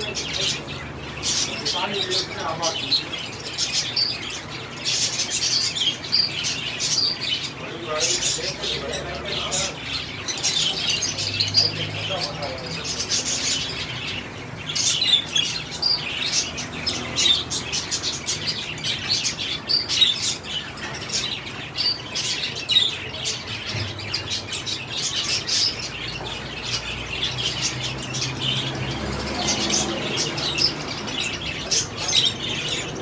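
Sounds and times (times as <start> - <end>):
budgerigars chattering: 0.0 - 33.0.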